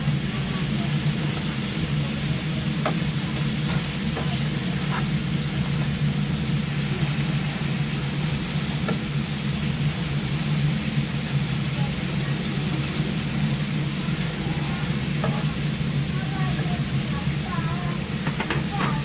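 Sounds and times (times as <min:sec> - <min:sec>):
pork sizzling in a pan: 0:00.0 - 0:19.0.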